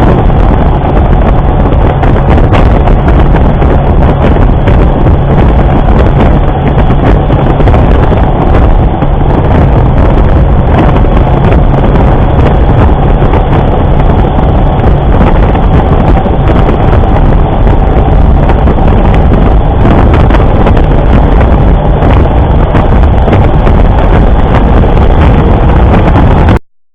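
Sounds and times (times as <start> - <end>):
motorcycle engine running: 0.0 - 26.6
wind buffeting microphone: 0.0 - 26.6.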